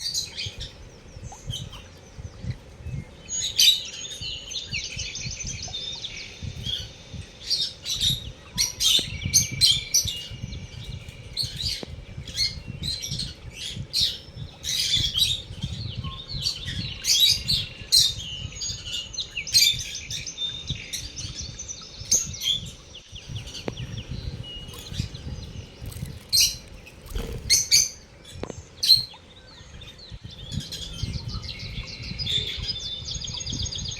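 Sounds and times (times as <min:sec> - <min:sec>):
lovebirds chirping and chattering: 0:00.0 - 0:33.9.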